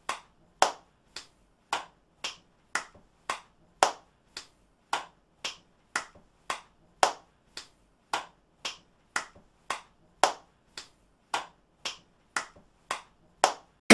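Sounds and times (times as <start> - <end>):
hand claps: 0.0 - 13.8.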